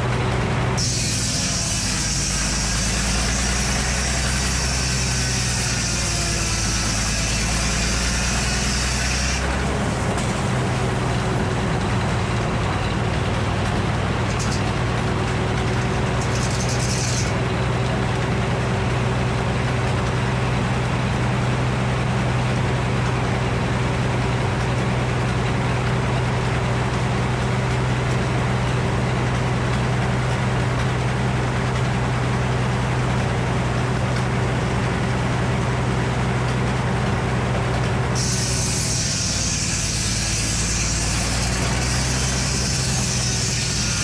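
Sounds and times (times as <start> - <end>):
engine humming steadily: 0.0 - 44.0.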